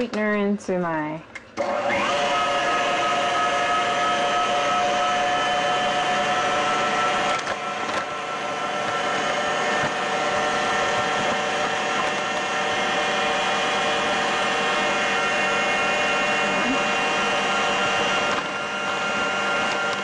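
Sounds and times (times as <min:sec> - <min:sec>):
stand mixer motor whirring: 0:01.5 - 0:20.0.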